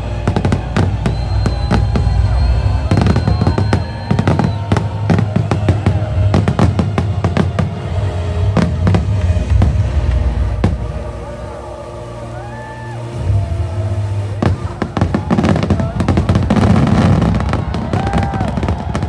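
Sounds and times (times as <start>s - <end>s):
fireworks bangs: 0.0s - 12.5s, 13.2s - 19.0s
music soundtrack: 0.0s - 19.0s.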